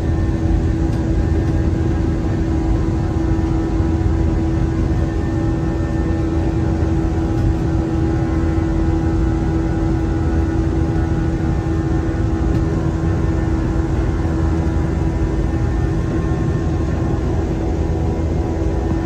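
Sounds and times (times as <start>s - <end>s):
airliner engines roaring: 0.0s - 19.0s
steady hum: 0.0s - 19.0s.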